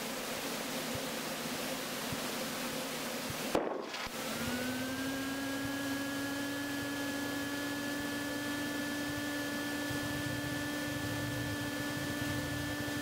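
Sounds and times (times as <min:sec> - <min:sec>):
steady hum with thin whine: 0:00.0 - 0:13.0.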